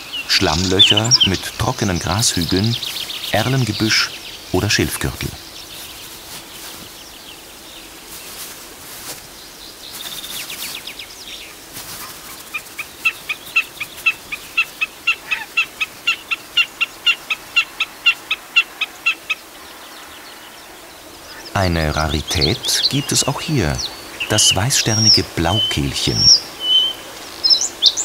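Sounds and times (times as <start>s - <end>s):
snipe calling: 0.0s - 7.0s, 10.0s - 28.0s.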